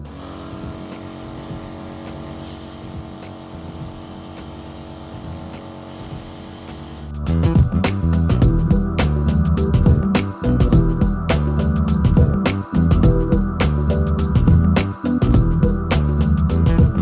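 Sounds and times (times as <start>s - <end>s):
compressor motor hum: 0.0s - 17.0s.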